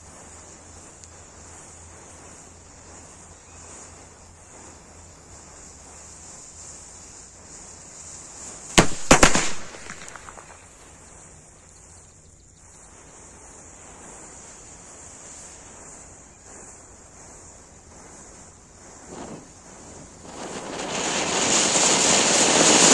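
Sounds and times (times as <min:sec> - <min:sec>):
firecrackers banging and crackling: 0:00.0 - 0:11.0, 0:14.8 - 0:22.9.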